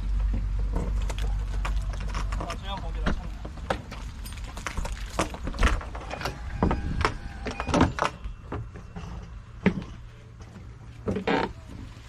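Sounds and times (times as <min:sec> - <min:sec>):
handling knocks and clicks: 0:00.1 - 0:11.6.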